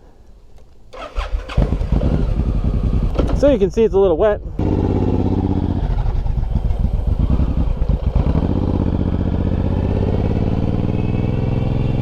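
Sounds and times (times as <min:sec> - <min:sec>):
motorcycle engine running: 0:01.1 - 0:03.6, 0:04.4 - 0:12.0.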